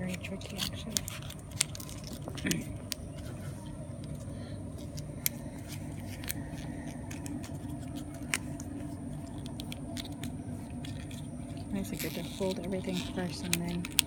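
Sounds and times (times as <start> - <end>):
steady low hum: 0.0 - 14.0
thin card clicking and creasing: 0.0 - 14.0.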